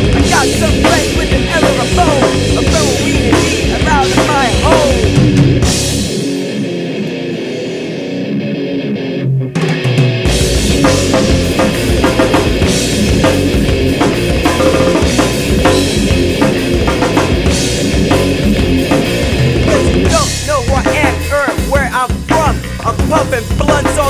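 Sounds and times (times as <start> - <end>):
drum kit with cymbals: 0.0 - 6.4, 9.6 - 24.0
rap-rock band playing: 0.0 - 24.0.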